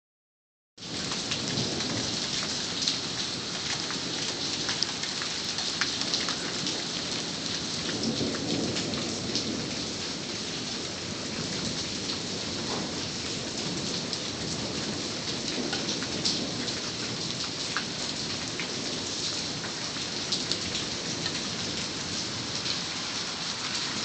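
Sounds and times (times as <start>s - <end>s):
heavy rain: 0.8s - 24.0s
raindrops ticking on surface: 0.8s - 24.0s
low rumble of thunder: 0.9s - 24.0s.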